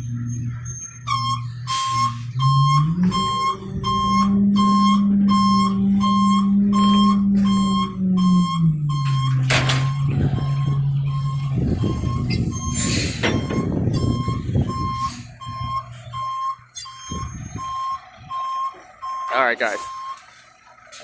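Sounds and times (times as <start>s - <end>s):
reversing alarm beeping: 0.0s - 20.3s
diesel engine revving: 0.0s - 21.0s.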